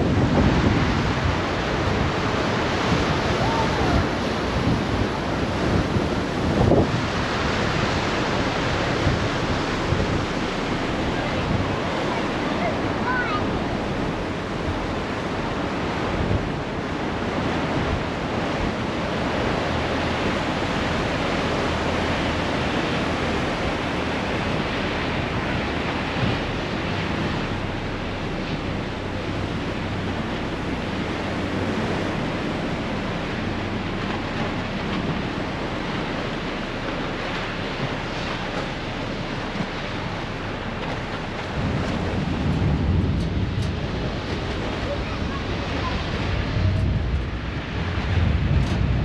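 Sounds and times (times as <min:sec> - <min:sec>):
low engine hum: 0:00.0 - 0:49.0
water rushing along hull: 0:00.0 - 0:49.0
wind buffeting microphone: 0:00.0 - 0:49.0.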